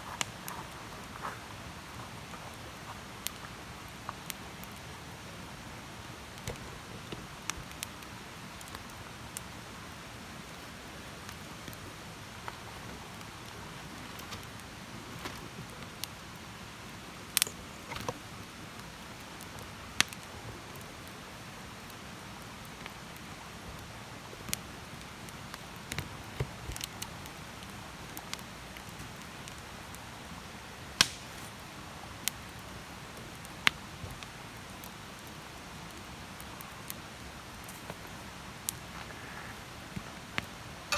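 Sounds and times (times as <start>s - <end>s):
campfire crackling and popping: 0.0s - 40.9s
campfire hiss: 0.0s - 40.9s.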